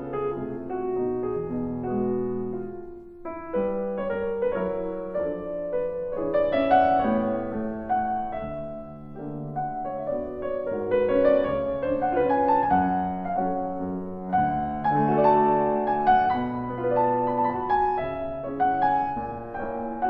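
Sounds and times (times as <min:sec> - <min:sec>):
solo piano playing: 0:00.0 - 0:20.0.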